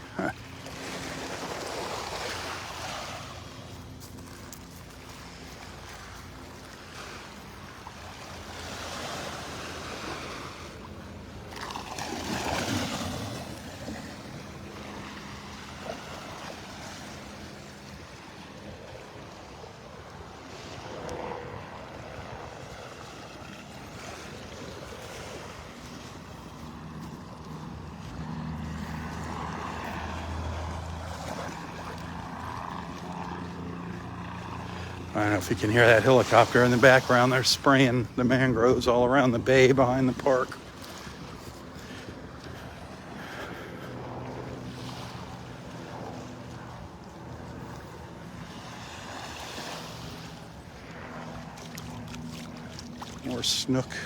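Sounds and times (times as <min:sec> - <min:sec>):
helicopter drone: 0:00.0 - 0:54.0
waves washing onto beach: 0:00.0 - 0:54.0.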